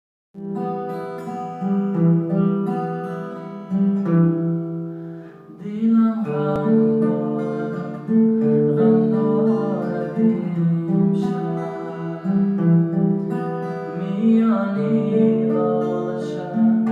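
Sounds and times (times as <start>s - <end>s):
instrumental music with plucked strings: 0.4s - 16.9s.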